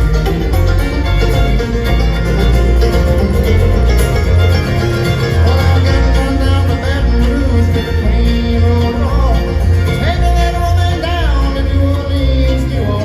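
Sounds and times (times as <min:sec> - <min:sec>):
bluegrass band playing: 0:00.0 - 0:13.0.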